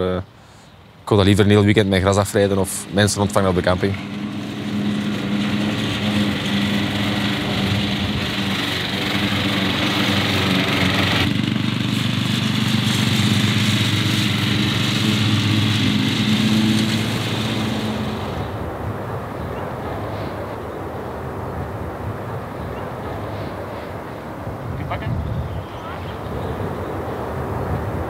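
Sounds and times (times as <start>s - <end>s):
ride-on lawn mower engine: 0.8s - 25.0s, 25.6s - 28.0s.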